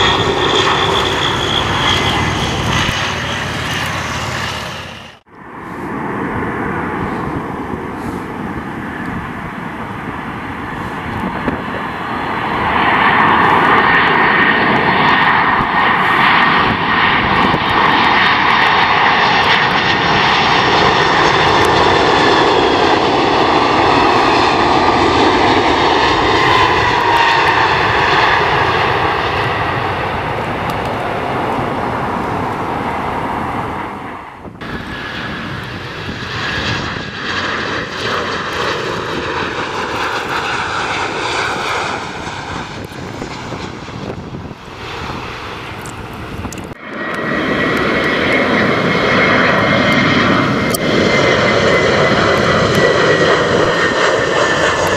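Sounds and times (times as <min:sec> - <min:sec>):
jet engines landing roar: 0:00.0 - 0:54.9
quieter jet airliner landing: 0:00.0 - 0:54.9.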